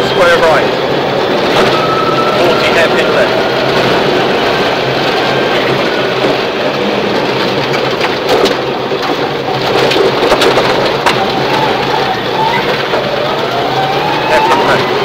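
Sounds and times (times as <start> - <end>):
car engine running: 0.0 - 15.0
tyres rushing on loose gravel: 0.0 - 15.0.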